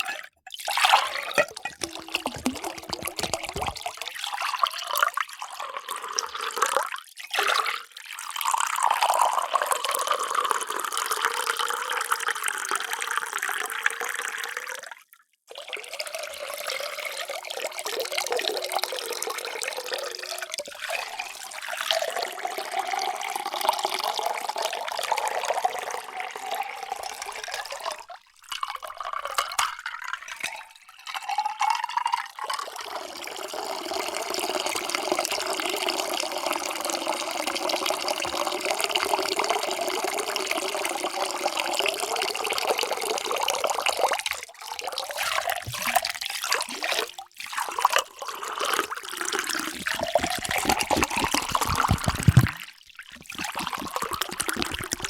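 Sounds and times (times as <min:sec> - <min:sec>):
water pouring into container: 0:00.0 - 0:55.0.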